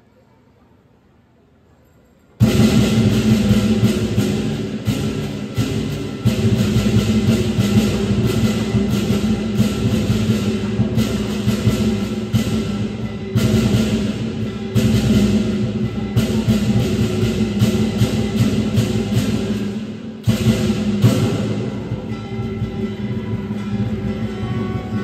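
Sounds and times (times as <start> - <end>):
percussion band: 2.1 - 25.0
large drum beating: 2.4 - 25.0.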